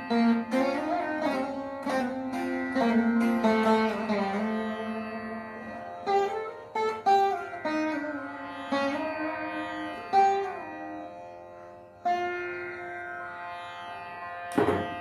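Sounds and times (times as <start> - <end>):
drone strings: 0.0 - 15.0
plucked veena notes: 0.0 - 15.0.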